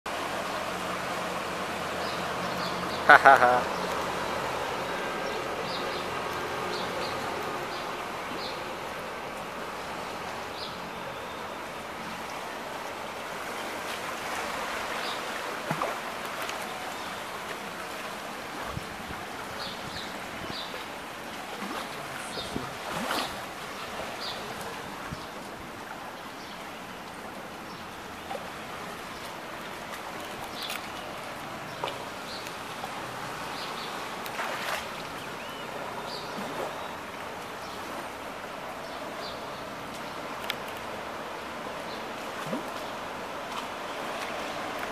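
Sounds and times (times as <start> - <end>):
floodwater rushing: 0.1 - 44.9
rain: 0.1 - 44.9.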